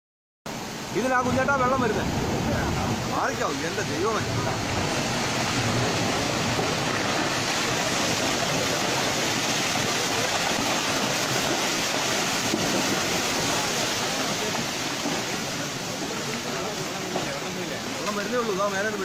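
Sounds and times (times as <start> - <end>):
floodwater rushing: 0.5 - 19.0.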